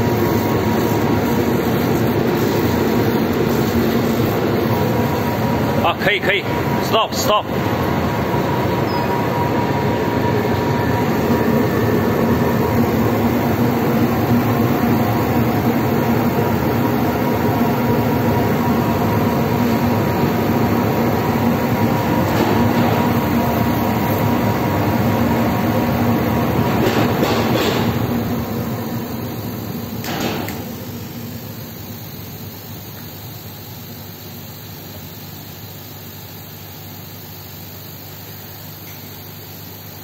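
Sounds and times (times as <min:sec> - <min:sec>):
laser cutting machine droning: 0:00.0 - 0:40.0.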